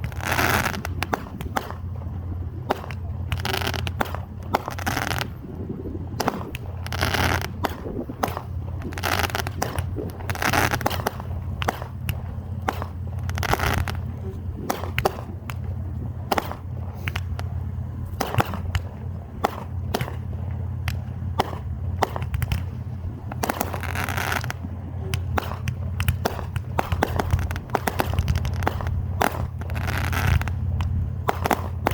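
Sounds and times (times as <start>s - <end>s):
fireworks bangs and crackles: 0.0s - 31.9s
fireworks hissing rushes: 0.0s - 31.9s.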